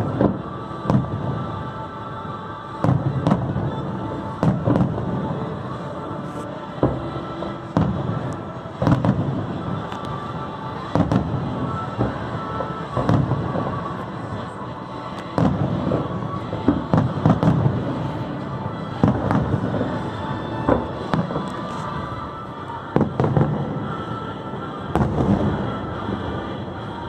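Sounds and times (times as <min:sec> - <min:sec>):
fireworks booming and crackling: 0:00.0 - 0:27.0
music playing: 0:00.0 - 0:27.0.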